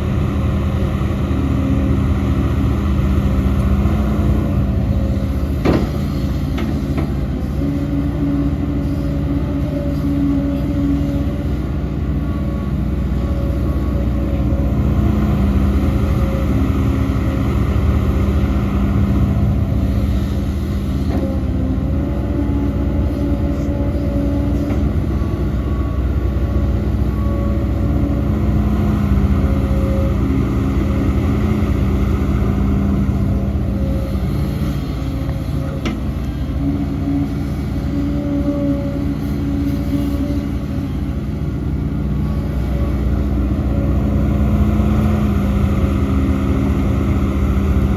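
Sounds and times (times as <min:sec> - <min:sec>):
heavy diesel machinery running: 0:00.0 - 0:47.9.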